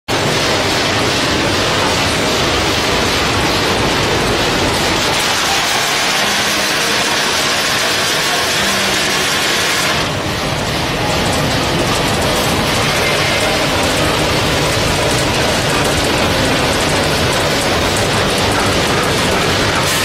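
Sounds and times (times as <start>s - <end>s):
roasting machine running: 0.1s - 20.0s.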